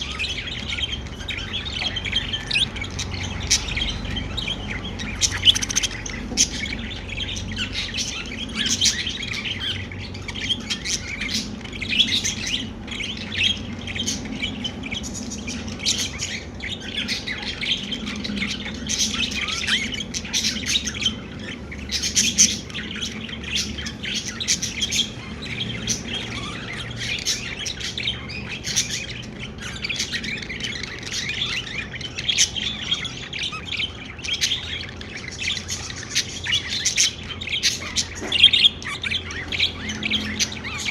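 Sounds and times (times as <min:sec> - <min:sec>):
budgerigars chirping and warbling: 0:00.0 - 0:40.9.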